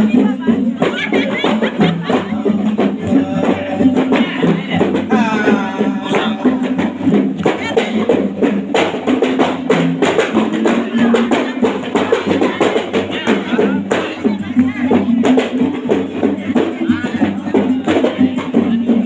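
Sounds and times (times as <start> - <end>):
busy drum beat: 0.0 - 19.0.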